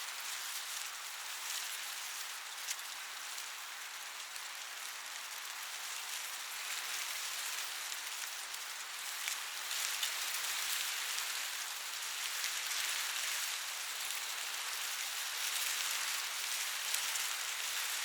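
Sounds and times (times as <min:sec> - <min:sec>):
wind rustling corn leaves: 0:00.0 - 0:18.0
small crackles: 0:00.1 - 0:18.0.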